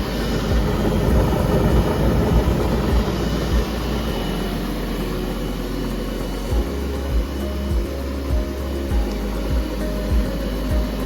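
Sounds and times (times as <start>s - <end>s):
machine running: 0.0s - 11.0s.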